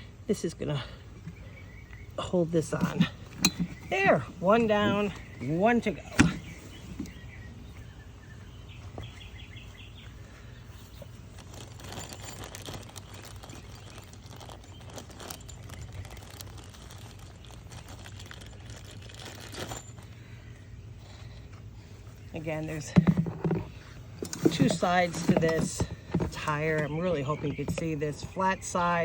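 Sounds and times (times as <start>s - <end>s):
low outdoor hum: 0.0s - 29.0s.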